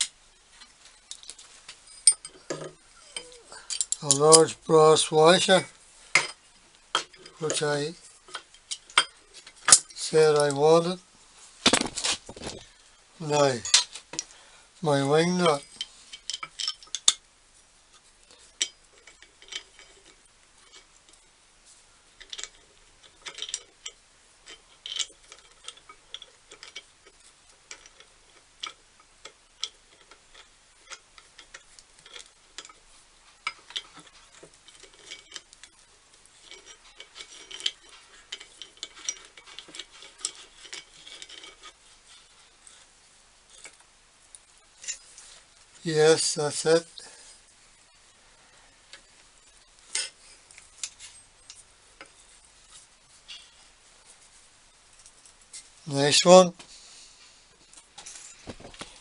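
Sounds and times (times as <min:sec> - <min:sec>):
metal parts clicking and scraping: 0:00.0 - 0:10.9, 0:11.6 - 0:14.3, 0:14.9 - 0:17.3, 0:18.0 - 0:48.1, 0:48.7 - 0:56.4.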